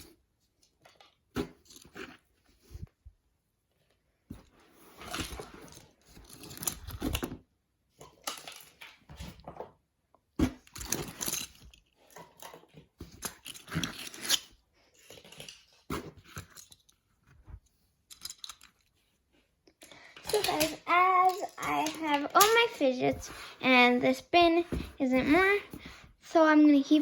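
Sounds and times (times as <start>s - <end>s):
plastic toys rustling and clattering: 0.0s - 3.1s, 3.7s - 27.0s.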